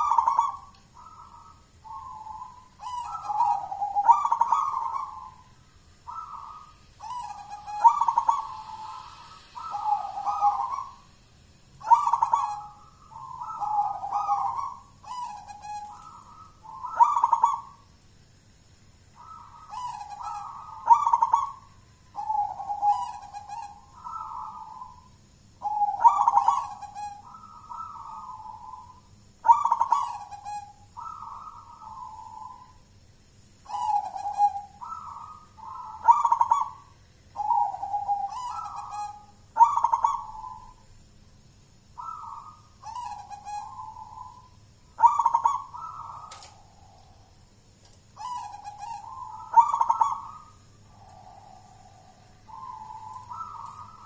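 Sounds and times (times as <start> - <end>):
dove cooing: 0.0 - 11.1, 11.8 - 17.8, 19.2 - 32.8, 33.6 - 40.8, 42.0 - 47.4, 48.2 - 54.0.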